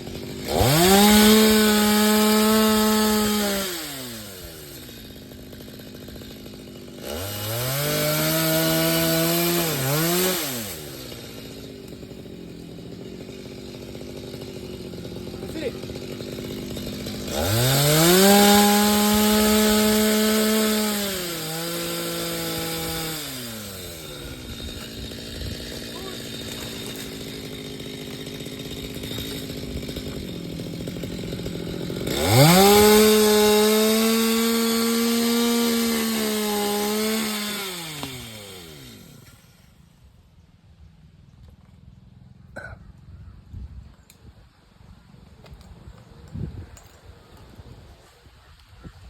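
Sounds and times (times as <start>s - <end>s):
chainsaw idling and revving: 0.0s - 40.4s.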